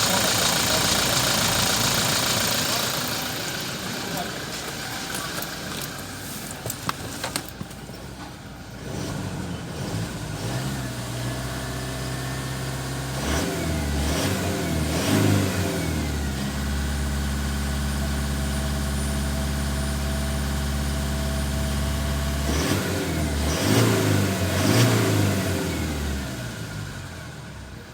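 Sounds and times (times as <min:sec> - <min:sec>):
diesel engine revving: 0:00.0 - 0:27.9.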